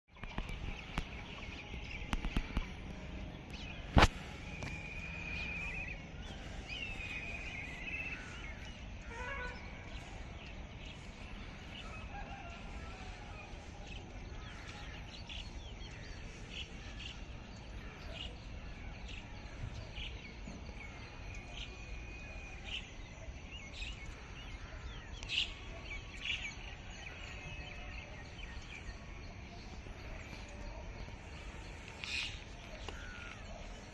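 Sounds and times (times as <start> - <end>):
birds chirping: 0.1 - 33.9
whistled bird calls: 0.2 - 33.9.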